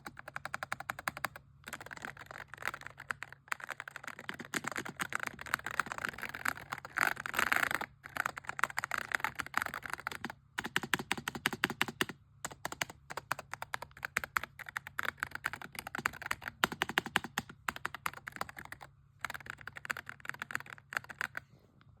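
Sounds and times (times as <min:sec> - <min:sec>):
mechanical keyboard keystroke clacks: 0:00.0 - 0:21.4
faint low hum: 0:00.0 - 0:22.0.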